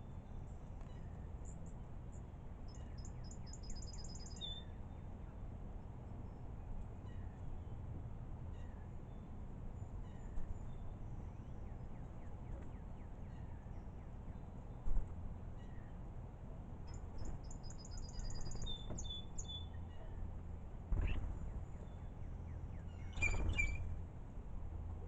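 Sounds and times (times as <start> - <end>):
low background rumble: 0.0 - 25.0.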